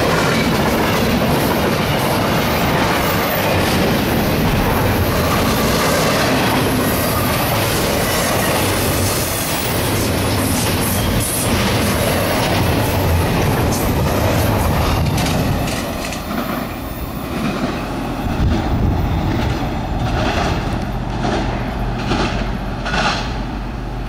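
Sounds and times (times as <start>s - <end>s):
freight train wheels rumbling on rails: 0.0s - 24.0s.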